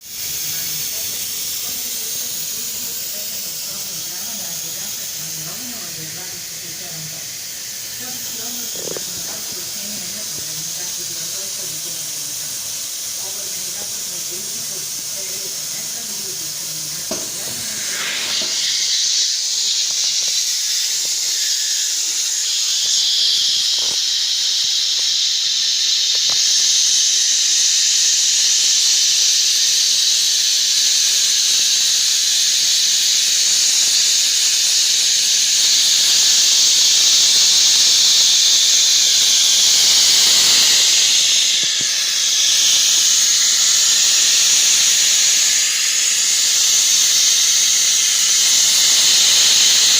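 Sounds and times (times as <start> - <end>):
hot-air blower hissing: 0.0 - 49.9.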